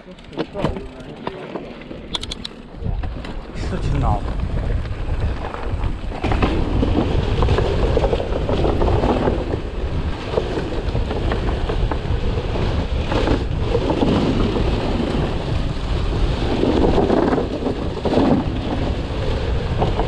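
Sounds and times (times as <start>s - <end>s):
bicycle tyre roar: 0.0s - 20.0s
bike knocks and rattles: 0.0s - 20.0s
wind rushing over microphone: 2.1s - 20.0s.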